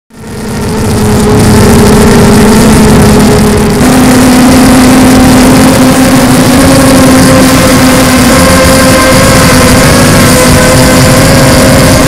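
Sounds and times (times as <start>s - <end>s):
drone motors whining: 0.1s - 12.0s
rush of air: 0.2s - 12.0s.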